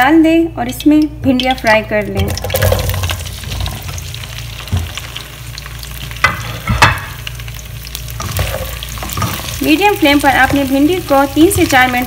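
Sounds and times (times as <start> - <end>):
food sizzling in hot oil: 1.4 - 12.0.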